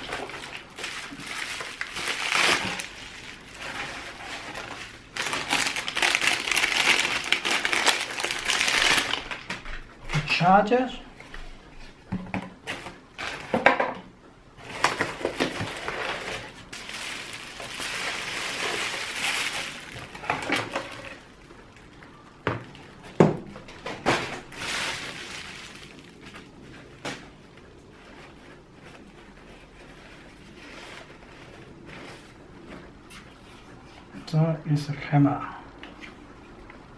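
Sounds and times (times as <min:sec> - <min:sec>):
bubble wrap and plastic crinkling: 0:00.0 - 0:13.7, 0:14.6 - 0:34.4.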